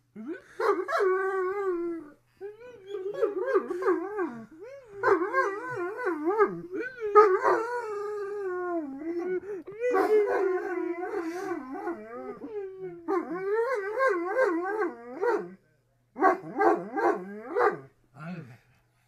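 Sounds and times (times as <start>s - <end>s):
dog whining and howling: 0.2s - 15.6s, 16.2s - 17.9s.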